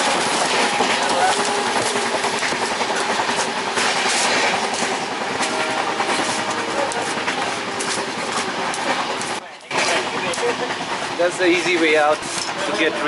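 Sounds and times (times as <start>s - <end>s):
rail clatter: 0.0s - 13.0s
train rushing and rumbling: 0.0s - 13.0s.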